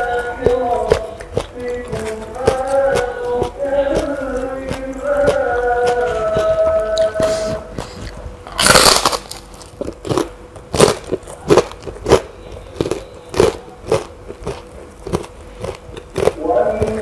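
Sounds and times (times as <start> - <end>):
cracker crunching while chewed: 0.0 - 17.0.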